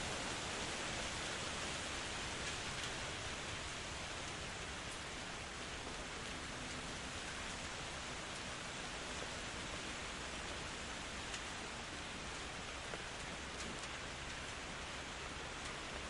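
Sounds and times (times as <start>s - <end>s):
rain falling in forest: 0.0s - 16.0s.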